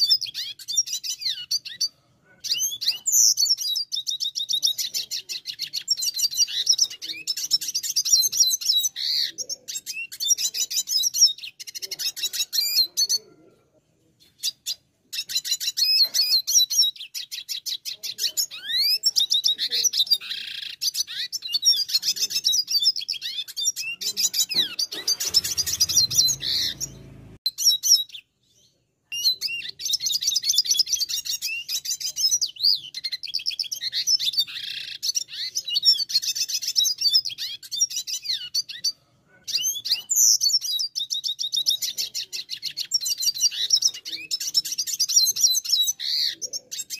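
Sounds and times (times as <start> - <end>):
bird twittering song: 0.0 - 13.5, 14.2 - 46.9.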